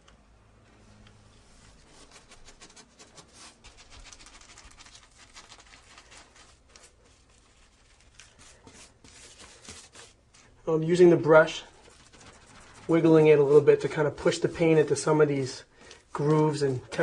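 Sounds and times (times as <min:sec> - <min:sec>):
paintbrush strokes on a wall: 0:01.2 - 0:17.0.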